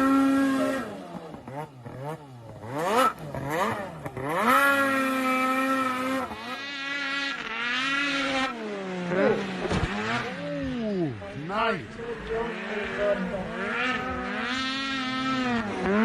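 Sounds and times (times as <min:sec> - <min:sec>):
small engine revving: 0:00.0 - 0:16.0.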